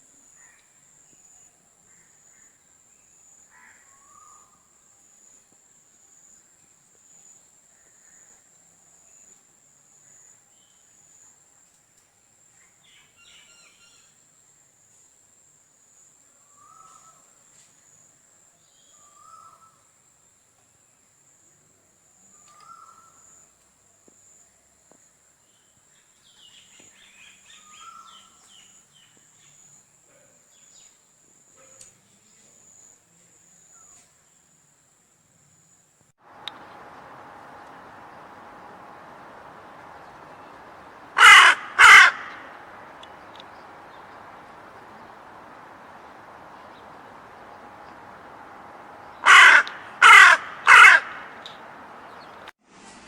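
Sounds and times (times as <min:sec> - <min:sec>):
faint birdsong: 0:00.0 - 0:15.2, 0:15.8 - 0:52.5.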